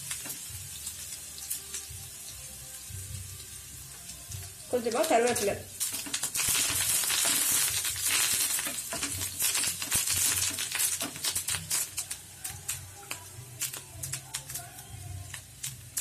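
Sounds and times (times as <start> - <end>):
leaves sizzling in hot oil: 0.0 - 16.0.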